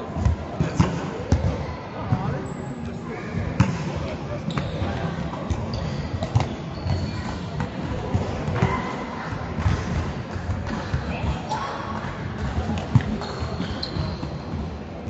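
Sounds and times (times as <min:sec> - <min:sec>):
voices chattering in a hall: 0:00.0 - 0:15.0.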